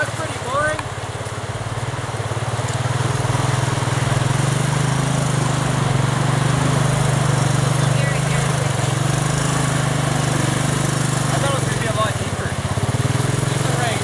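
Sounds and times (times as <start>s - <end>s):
three-wheeler engine running: 0.0s - 14.0s
water splashing: 0.0s - 14.0s.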